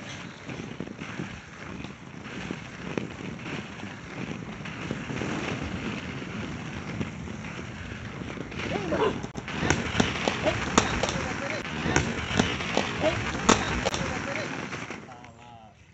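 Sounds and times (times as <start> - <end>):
skate wheels rolling on asphalt: 0.0 - 15.9
wind buffeting microphone: 0.0 - 15.9.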